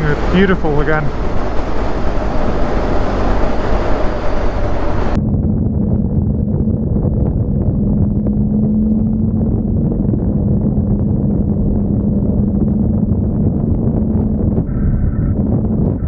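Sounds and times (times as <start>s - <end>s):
motorcycle engine droning: 0.0s - 16.0s
wind rumbling on microphone: 0.0s - 16.0s.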